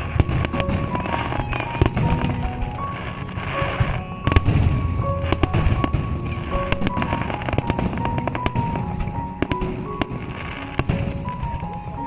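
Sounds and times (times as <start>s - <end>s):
fireworks bangs and crackles: 0.0s - 12.0s
music with held notes: 0.0s - 12.0s.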